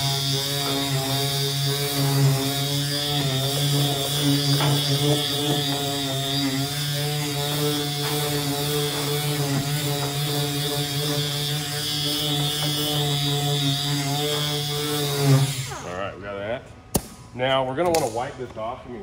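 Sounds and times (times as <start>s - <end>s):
orbital sander sanding metal: 0.0s - 16.0s.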